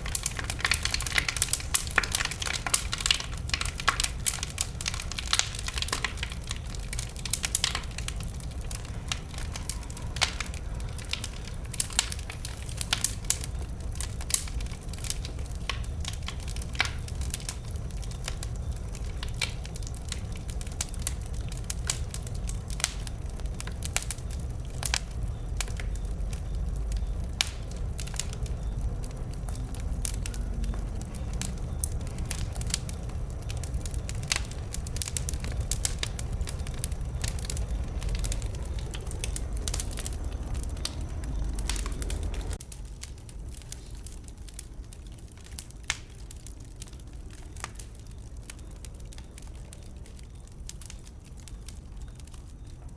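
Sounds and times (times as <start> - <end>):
steady low rumble: 0.0 - 51.8
bonfire crackling and popping: 0.0 - 52.9.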